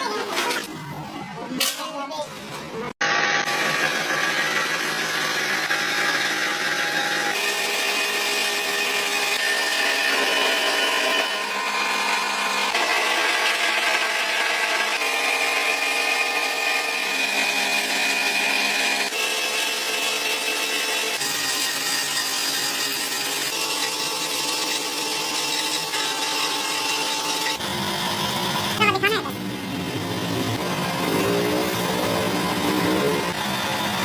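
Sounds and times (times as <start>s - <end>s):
power tools whining: 3.0s - 34.0s.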